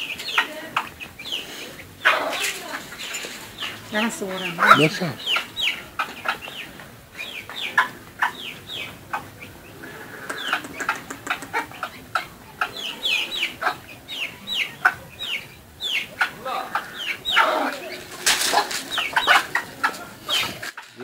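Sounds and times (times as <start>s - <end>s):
chicks peeping: 0.0s - 21.0s
hen clucking softly: 3.6s - 21.0s.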